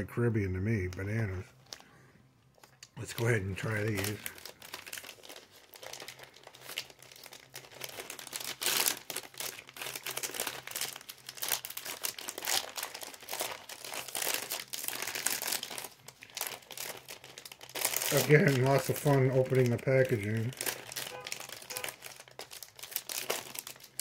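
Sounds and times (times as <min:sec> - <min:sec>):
plastic snack bag crinkling: 0:00.0 - 0:24.0.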